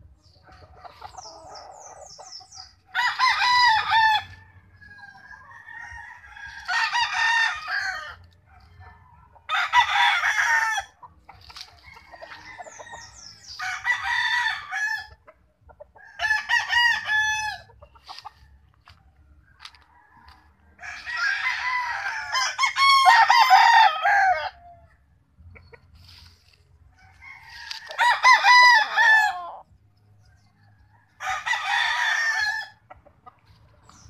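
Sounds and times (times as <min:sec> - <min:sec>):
roosters crowing: 0:00.6 - 0:25.1, 0:26.9 - 0:29.8, 0:30.5 - 0:32.9.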